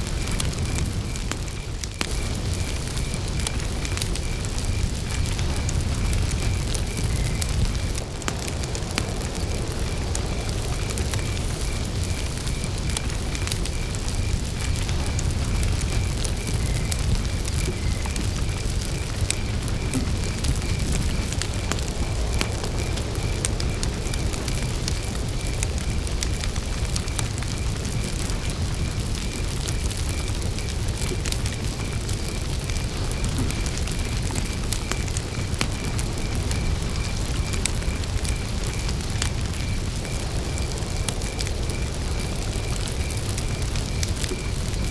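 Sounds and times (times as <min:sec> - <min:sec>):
campfire crackling and popping: 0:00.0 - 0:44.9
cricket chirping: 0:00.0 - 0:44.9.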